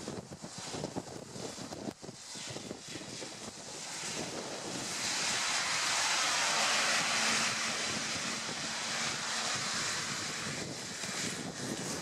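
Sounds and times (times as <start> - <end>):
tyres hissing on wet road: 0.3 - 12.0.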